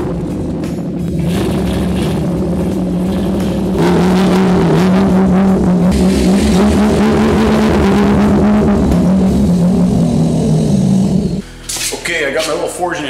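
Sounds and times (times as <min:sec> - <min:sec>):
truck engine revving: 0:00.0 - 0:11.5.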